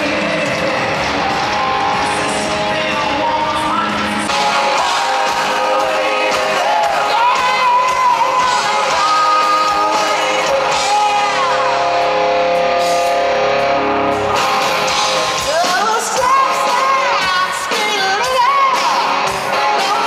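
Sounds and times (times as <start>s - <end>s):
person singing: 0.0s - 12.3s, 15.3s - 20.0s
guitar: 0.0s - 20.0s.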